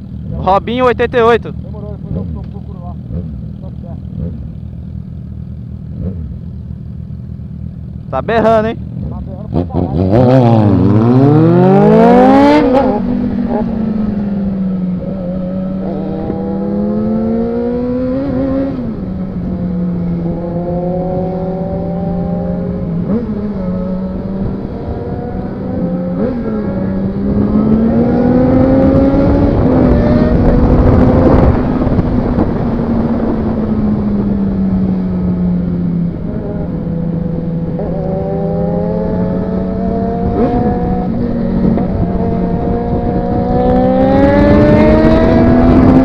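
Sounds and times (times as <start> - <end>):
motorcycle engine with loud exhaust: 0.0 - 46.0.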